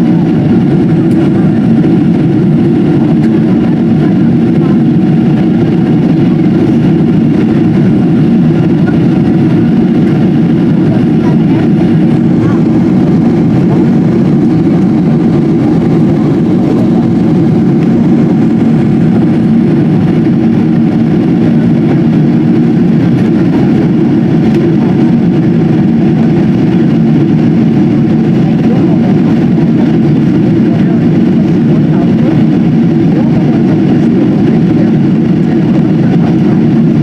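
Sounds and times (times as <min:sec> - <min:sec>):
jet engine cabin roar: 0:00.0 - 0:37.0.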